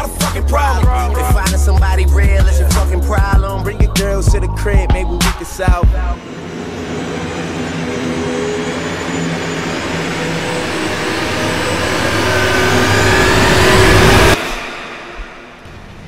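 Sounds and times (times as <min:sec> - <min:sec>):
train rumble: 0:00.0 - 0:16.0
thin whine rising: 0:00.6 - 0:16.0.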